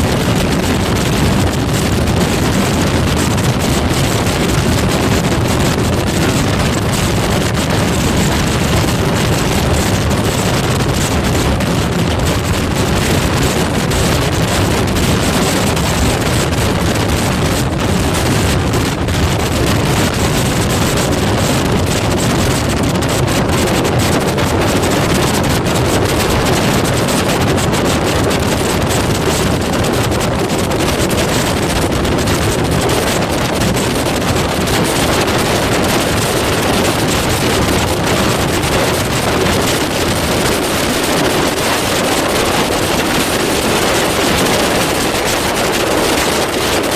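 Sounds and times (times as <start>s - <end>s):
moving vehicle rumble: 0.0s - 46.9s
wind buffeting microphone: 0.0s - 46.9s.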